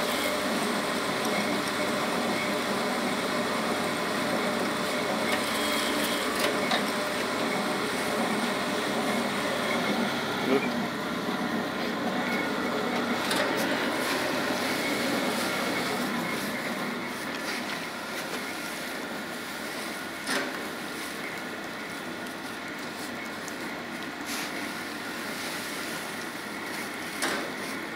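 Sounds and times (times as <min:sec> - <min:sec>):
plastic shredder running: 0:00.0 - 0:27.9.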